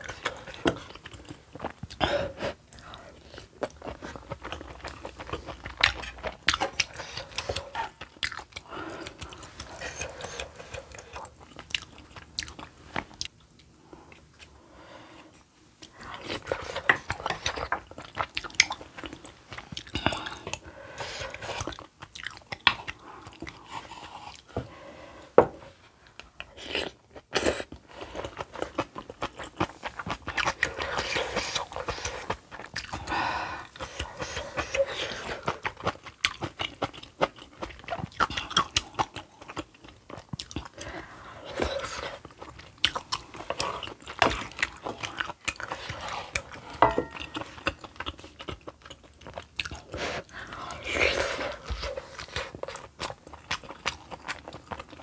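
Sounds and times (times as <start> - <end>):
wet chewing and smacking: 2.6 - 14.5, 15.8 - 24.5, 26.1 - 55.0.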